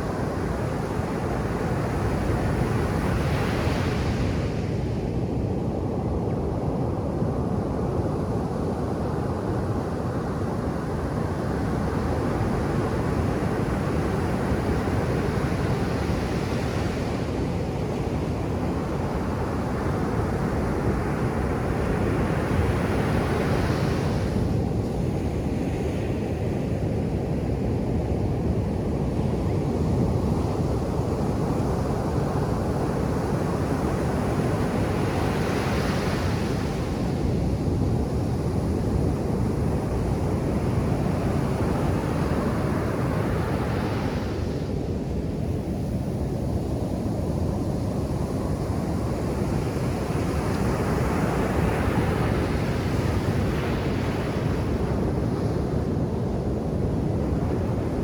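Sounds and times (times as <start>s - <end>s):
low rumble of surf: 0.0s - 58.0s.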